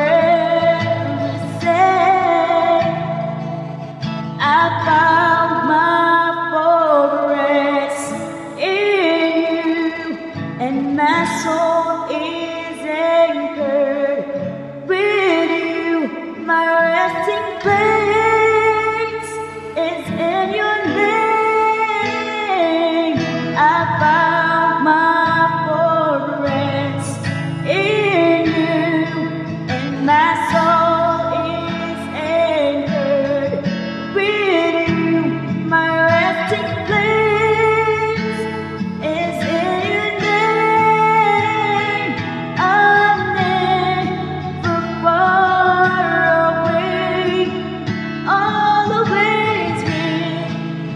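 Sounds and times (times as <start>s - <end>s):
acoustic guitar: 0.0s - 50.9s
woman singing worship song: 0.0s - 50.9s.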